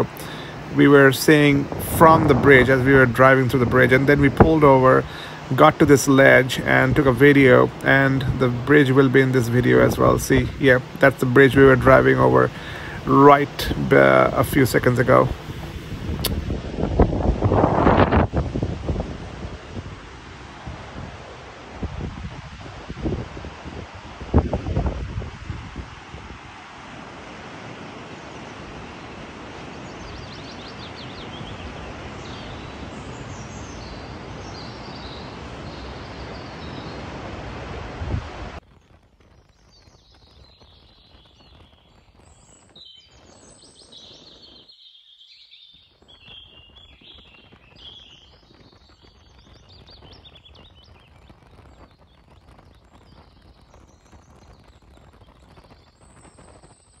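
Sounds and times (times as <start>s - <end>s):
small birds chirping: 0.0s - 16.6s, 27.8s - 57.0s
wind on microphone: 0.0s - 44.7s, 45.8s - 57.0s.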